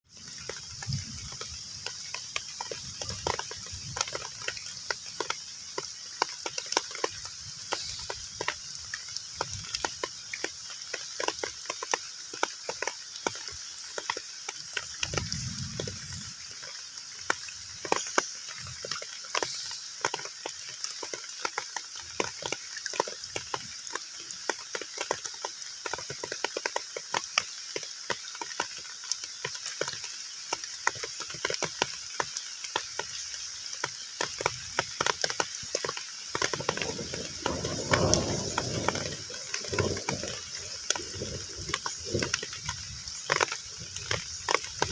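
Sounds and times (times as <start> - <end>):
heavy rain on pond: 0.0 - 44.9
drops plinking and splashing: 0.1 - 44.9.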